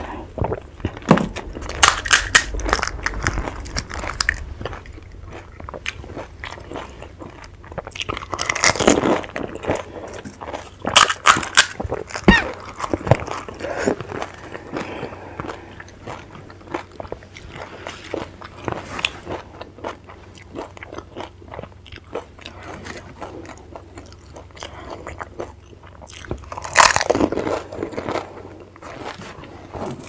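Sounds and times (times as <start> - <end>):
crunching fried snack: 1.4 - 29.3.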